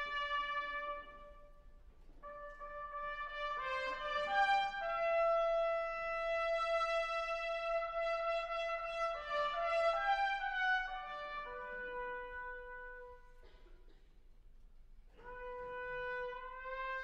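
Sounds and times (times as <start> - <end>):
solo trumpet playing: 0.0 - 13.6, 15.1 - 17.0.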